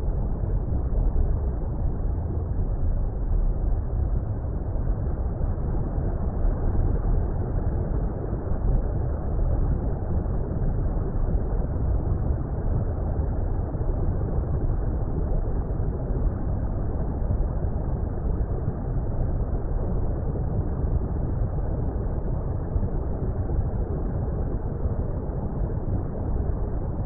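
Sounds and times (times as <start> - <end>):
muffled underwater rumble: 0.0 - 27.0.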